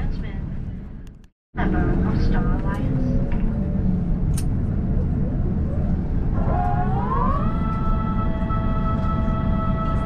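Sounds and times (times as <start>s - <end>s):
aircraft cabin rumble: 0.0s - 10.0s.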